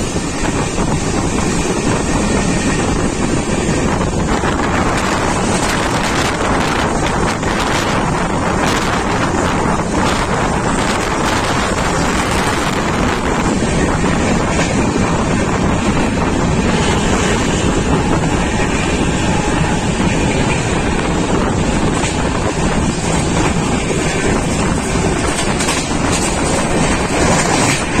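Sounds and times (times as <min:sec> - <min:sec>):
train wheels rumbling on rails: 0:00.0 - 0:28.0
wind buffeting microphone: 0:00.0 - 0:28.0.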